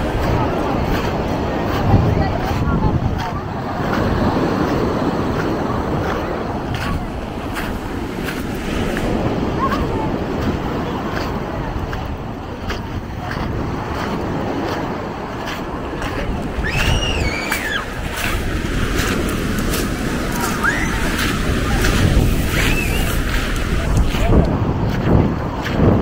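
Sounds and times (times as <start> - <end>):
surf washing onto beach: 0.0 - 26.0.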